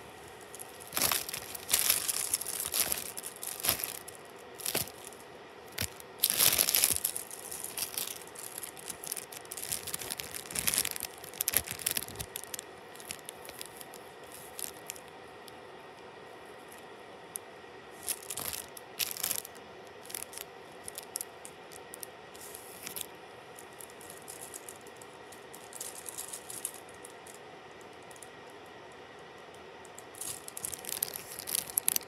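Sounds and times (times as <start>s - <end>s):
plastic bag crinkling: 0.3s - 15.1s, 18.0s - 27.0s, 30.1s - 32.0s.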